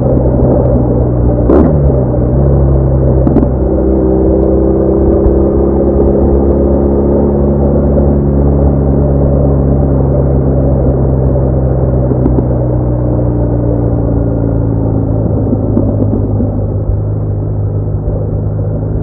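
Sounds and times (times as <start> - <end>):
motorcycle engine droning: 0.0 - 19.0.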